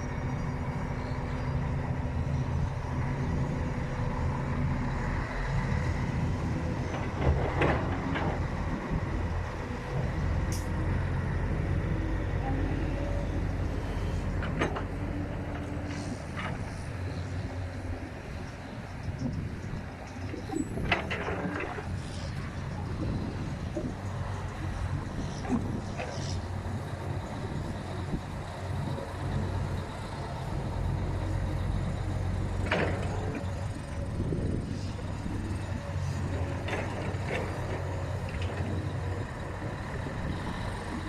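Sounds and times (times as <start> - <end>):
heavy diesel machinery drone: 0.0 - 41.0.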